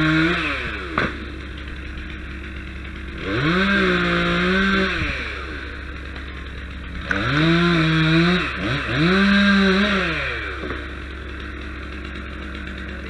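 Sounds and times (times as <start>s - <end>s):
chainsaw revving: 0.0s - 13.0s
steady low hum: 0.0s - 13.0s.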